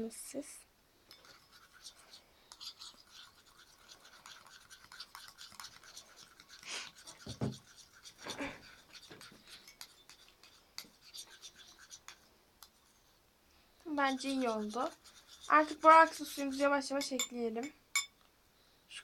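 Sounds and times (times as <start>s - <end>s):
spoon scraping slime in a bowl: 1.1s - 13.2s, 13.9s - 17.4s.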